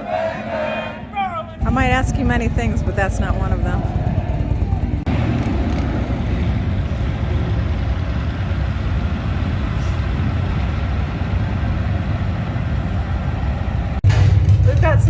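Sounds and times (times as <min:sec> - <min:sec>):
truck engine and road rumble: 0:00.1 - 0:15.0.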